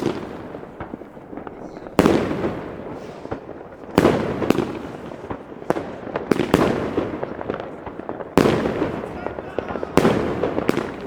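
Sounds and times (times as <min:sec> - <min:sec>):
firework bursts: 0:00.0 - 0:11.0
firework crackling and pops: 0:00.0 - 0:11.0.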